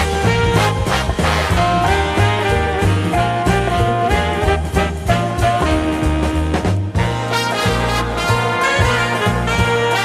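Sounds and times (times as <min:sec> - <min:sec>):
bass line: 0:00.0 - 0:10.0
big band swing music: 0:00.0 - 0:10.0
brass section playing chords: 0:00.0 - 0:10.0.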